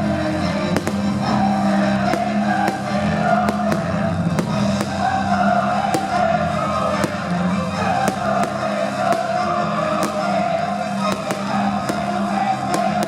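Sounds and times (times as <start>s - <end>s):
firework bangs: 0.0s - 13.0s.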